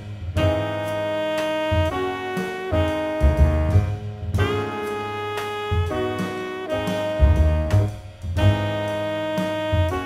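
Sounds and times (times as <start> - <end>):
bass line: 0.0 - 10.0.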